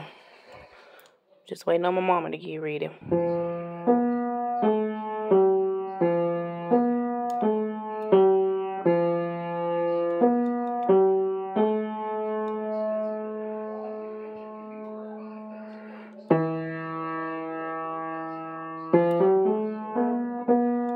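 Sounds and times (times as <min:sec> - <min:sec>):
piano notes picked out slowly: 0:03.1 - 0:20.9.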